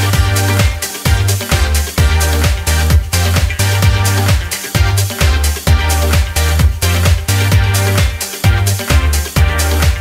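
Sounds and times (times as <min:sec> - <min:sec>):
deep bass: 0:00.0 - 0:10.0
kick drum beat: 0:00.0 - 0:10.0.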